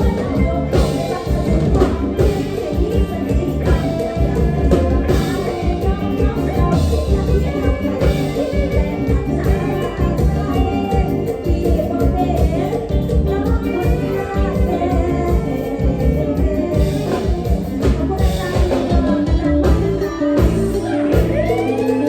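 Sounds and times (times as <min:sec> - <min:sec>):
bass and drum beat: 0:00.0 - 0:22.0
live band playing upbeat music: 0:00.0 - 0:22.0
person singing: 0:00.0 - 0:22.0.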